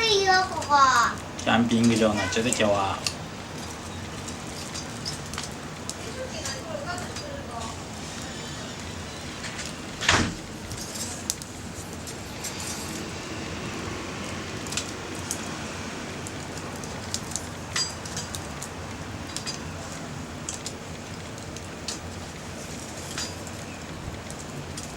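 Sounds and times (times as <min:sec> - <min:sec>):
wood fire hissing and crackling: 0:00.0 - 0:24.9.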